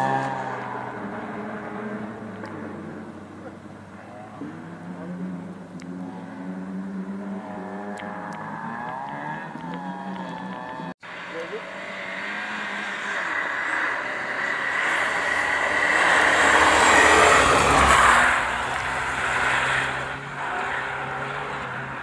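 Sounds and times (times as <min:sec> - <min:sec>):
rally car passing at speed: 0:00.0 - 0:22.0.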